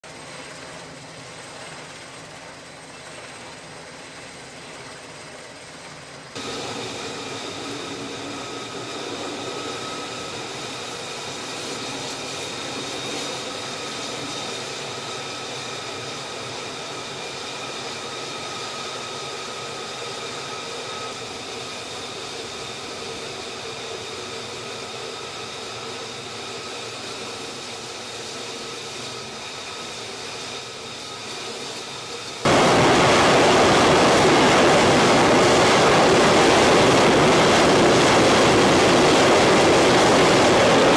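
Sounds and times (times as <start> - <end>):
jet engine running with high whine: 0.0 - 40.9.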